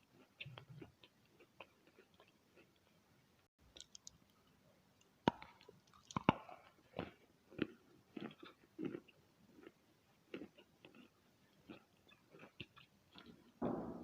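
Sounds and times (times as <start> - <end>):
person chewing chalk: 0.0 - 3.0, 5.2 - 13.6.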